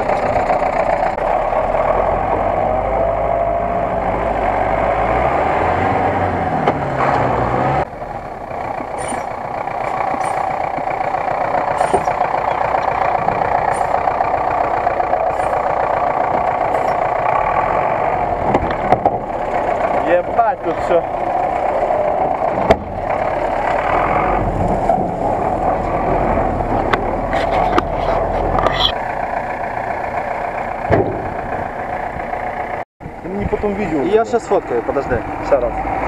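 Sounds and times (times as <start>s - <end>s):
truck engine running under load: 0.0s - 36.0s.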